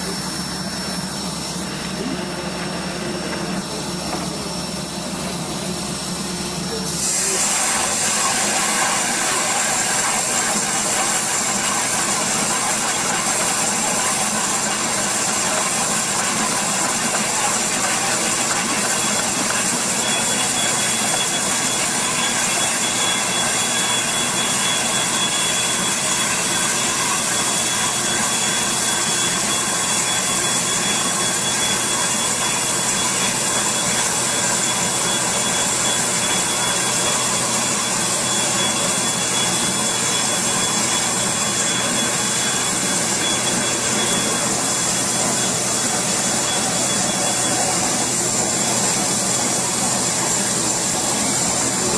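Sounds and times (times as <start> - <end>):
drilling rig engine: 0.0 - 51.9
thin high whine: 0.0 - 51.9.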